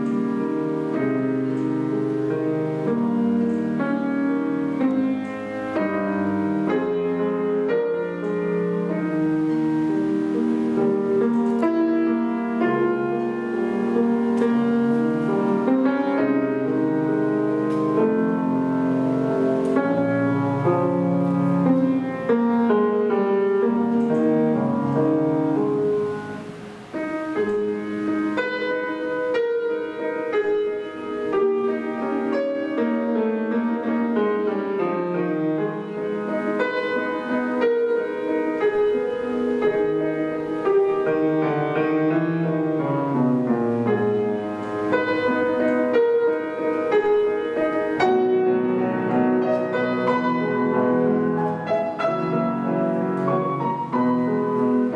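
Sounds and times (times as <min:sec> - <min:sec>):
solo piano playing: 0:00.0 - 0:54.9.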